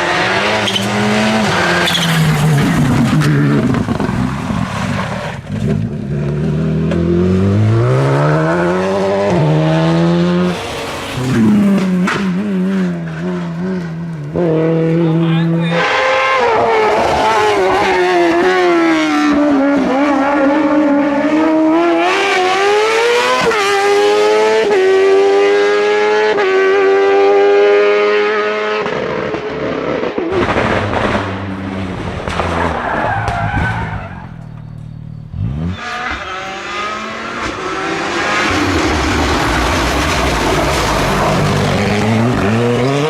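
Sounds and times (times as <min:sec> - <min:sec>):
rally car engine with upshifts: 0:00.0 - 0:43.0.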